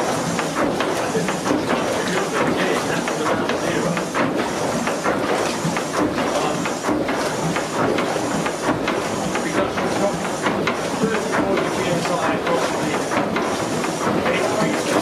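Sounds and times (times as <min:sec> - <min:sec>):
pump rods clattering: 0:00.0 - 0:15.0
water churning and splashing: 0:00.0 - 0:15.0.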